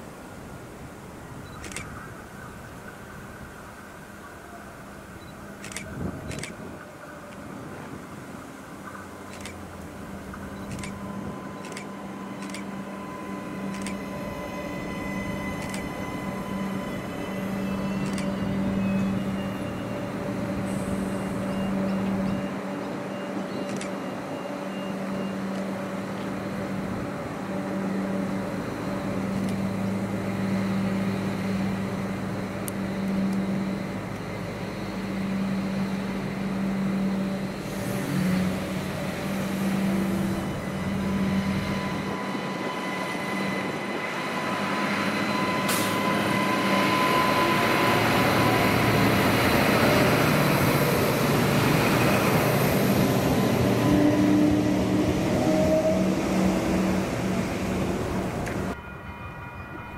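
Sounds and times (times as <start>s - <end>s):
diesel railcar engines idling: 0.0s - 59.9s
train passing: 0.0s - 59.9s.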